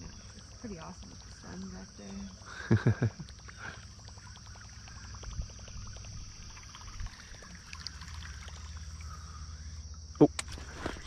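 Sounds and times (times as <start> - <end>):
high insect drone: 0.0 - 11.0
water lapping against a hull: 0.0 - 11.0.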